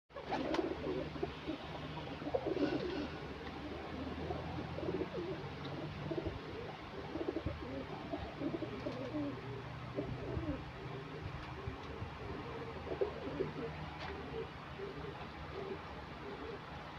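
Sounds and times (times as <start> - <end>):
pigeons cooing: 0.1 - 16.9.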